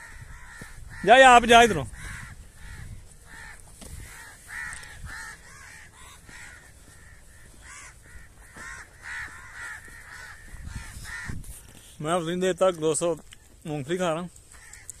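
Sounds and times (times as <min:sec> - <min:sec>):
birds cawing: 0:00.0 - 0:11.9, 0:13.3 - 0:15.0.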